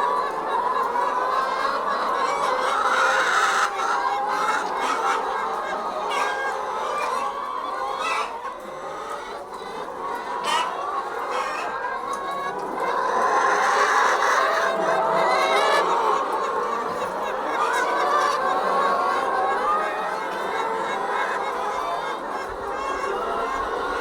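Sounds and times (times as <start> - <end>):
chickens clucking and squawking: 0.0 - 24.0.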